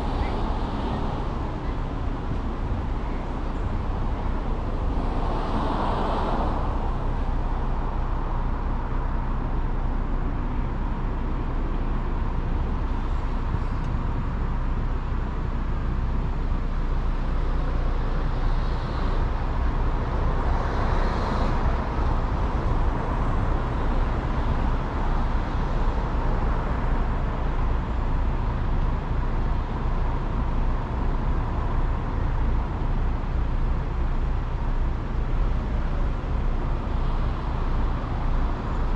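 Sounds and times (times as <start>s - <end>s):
surrounding traffic: 0.0s - 38.9s
tyre and engine noise: 0.0s - 38.9s.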